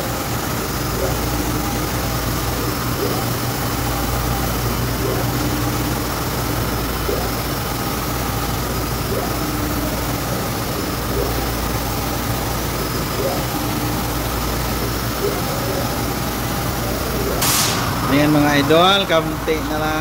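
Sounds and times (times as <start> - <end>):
printer machine hum and fan: 0.0 - 20.0.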